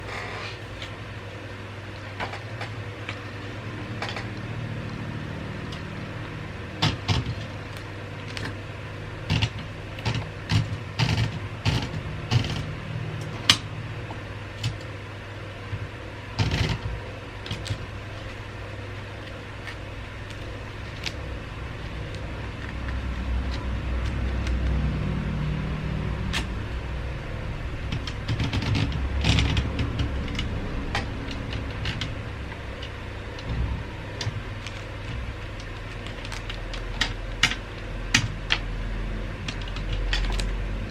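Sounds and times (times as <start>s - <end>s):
low hum: 2.6s - 40.9s.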